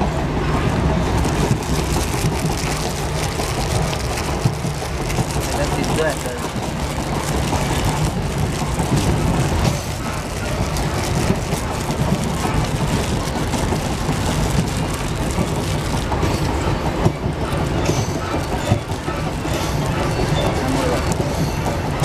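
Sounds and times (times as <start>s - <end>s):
train clatter: 0.0s - 22.0s
train rumbling: 0.0s - 22.0s.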